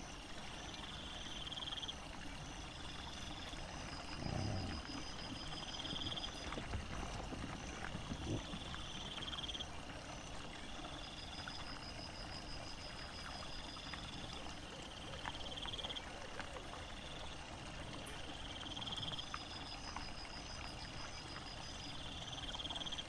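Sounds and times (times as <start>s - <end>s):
night insects trilling: 0.0s - 23.0s.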